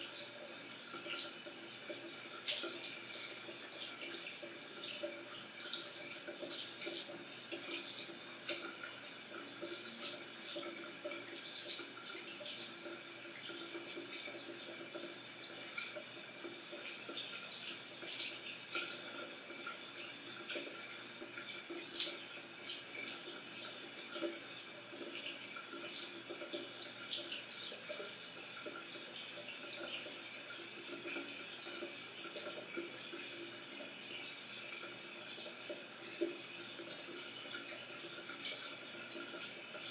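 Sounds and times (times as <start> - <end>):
water dripping: 0.0 - 39.9.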